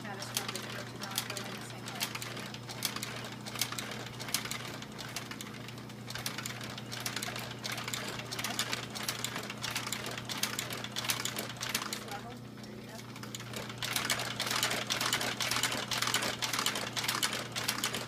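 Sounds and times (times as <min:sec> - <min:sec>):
sewing machine motor hum: 0:00.0 - 0:18.0
stitching mechanism clicks: 0:00.0 - 0:18.0.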